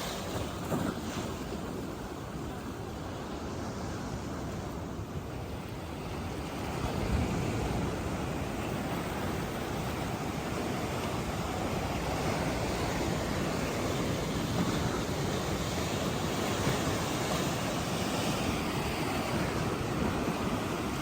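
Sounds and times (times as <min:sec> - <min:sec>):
sea waves on a beach: 0:00.0 - 0:21.0.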